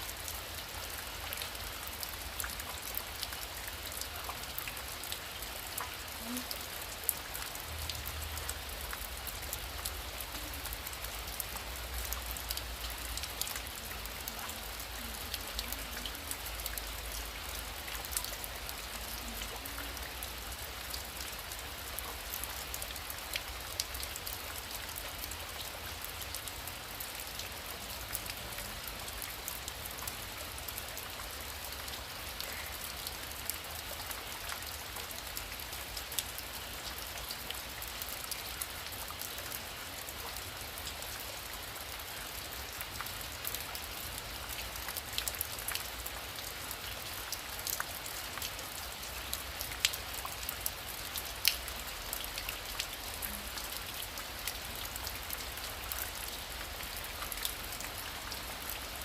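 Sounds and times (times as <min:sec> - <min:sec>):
heavy rain falling: 0:00.0 - 0:59.0
raindrops ticking on a surface: 0:00.0 - 0:59.0.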